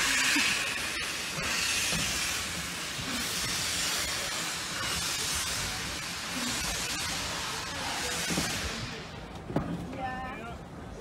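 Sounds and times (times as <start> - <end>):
steam locomotive hissing: 0.0 - 9.4.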